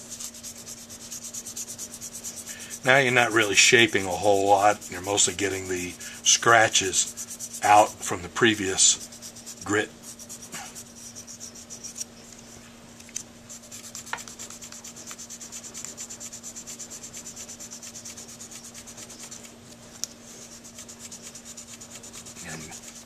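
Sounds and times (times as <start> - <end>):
sandpaper rubbing on metal: 0.0 - 12.1, 13.5 - 19.6, 20.2 - 23.0.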